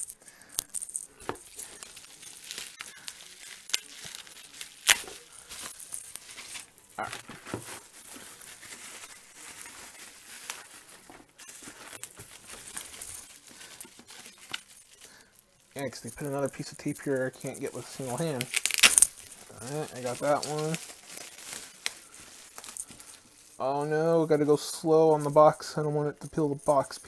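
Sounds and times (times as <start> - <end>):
bubble wrap and paper crinkling: 0.0 - 27.0.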